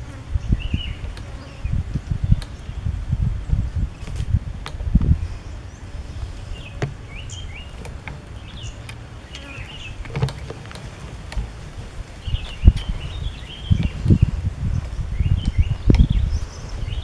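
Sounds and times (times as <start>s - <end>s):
small bird chirping: 0.3s - 4.3s, 4.9s - 10.5s, 12.1s - 17.0s.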